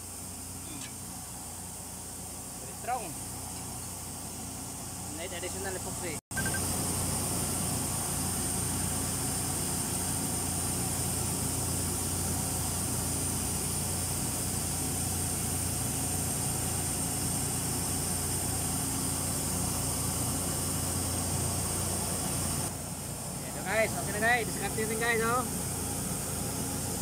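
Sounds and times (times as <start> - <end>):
high engine whine: 0.0 - 27.0.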